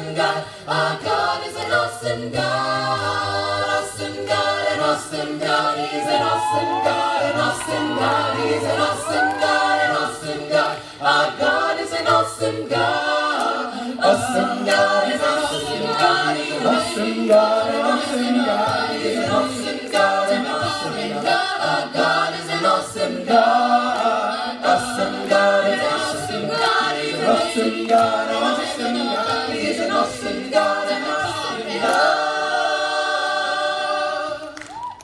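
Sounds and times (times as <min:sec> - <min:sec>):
vocal group singing in harmony: 0:00.0 - 0:35.0.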